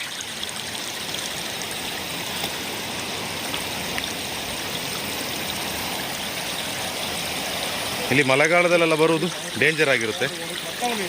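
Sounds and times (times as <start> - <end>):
mountain stream flowing: 0.0 - 11.0.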